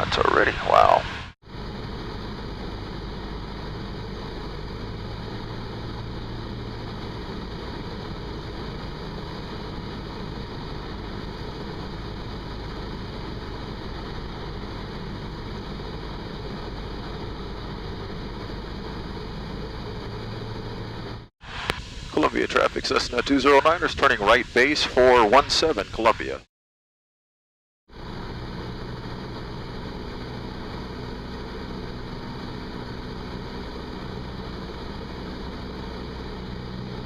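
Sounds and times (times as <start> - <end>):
aircraft engine and propeller droning: 0.0 - 26.4, 27.9 - 37.0.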